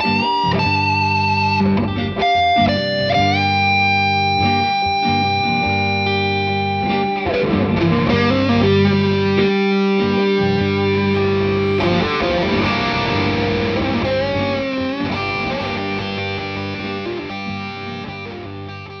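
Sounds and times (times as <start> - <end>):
electric guitar music: 0.0 - 19.0.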